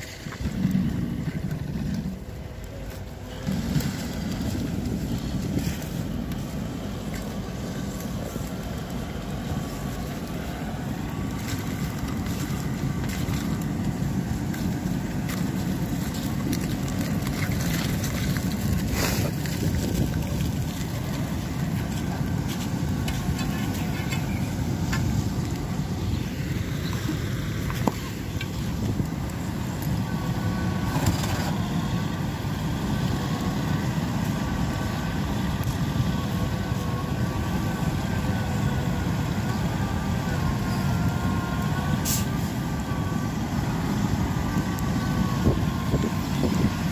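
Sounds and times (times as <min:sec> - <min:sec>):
distant diesel truck engines: 0:00.0 - 0:46.9.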